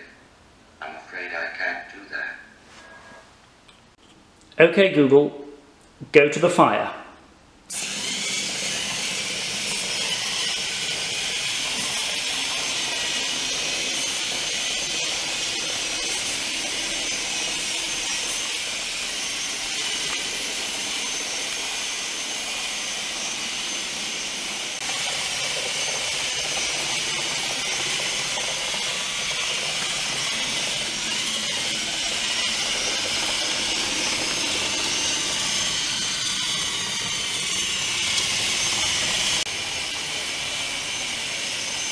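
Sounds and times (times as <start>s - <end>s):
robot motors whirring: 7.7s - 41.9s.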